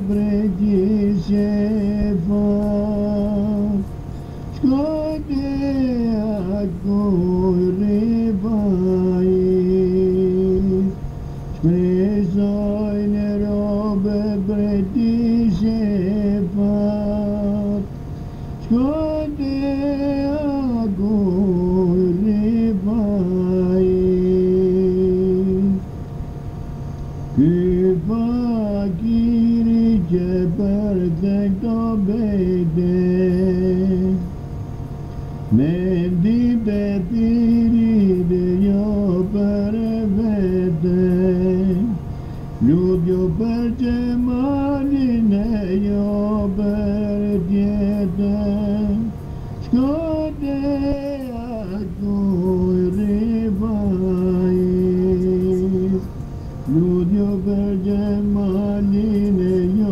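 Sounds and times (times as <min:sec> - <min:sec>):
person singing a devotional hymn: 0:00.0 - 0:26.0, 0:27.3 - 0:34.4, 0:35.4 - 0:59.9
steady low hum: 0:00.0 - 0:59.9.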